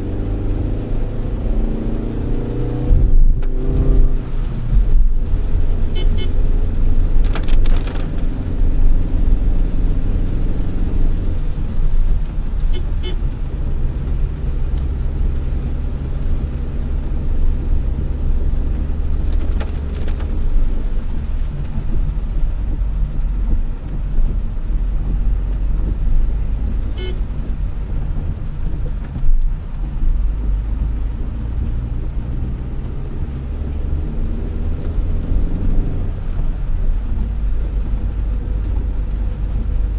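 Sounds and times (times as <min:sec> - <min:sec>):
engine and tyre drone: 0:00.0 - 0:39.9.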